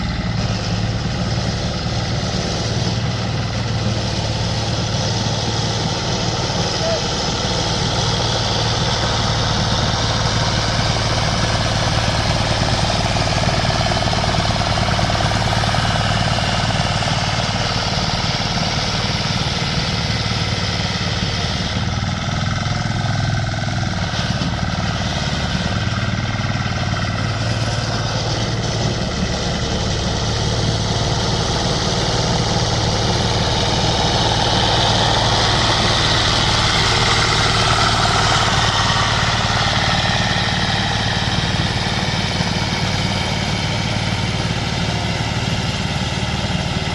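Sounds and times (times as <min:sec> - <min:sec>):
lawn mower engine running: 0:00.0 - 0:46.9.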